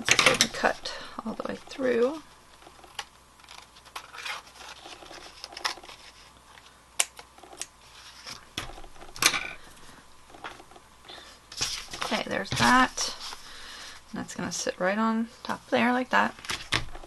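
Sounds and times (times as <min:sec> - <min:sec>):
card stock crinkling: 0:00.1 - 0:14.0.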